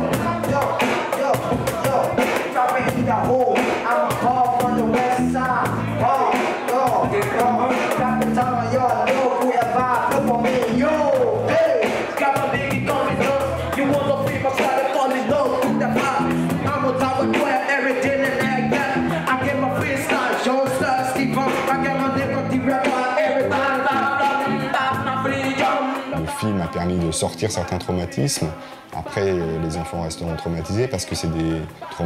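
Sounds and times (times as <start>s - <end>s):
live band music: 0.0s - 32.0s
man singing into a microphone: 0.0s - 32.0s.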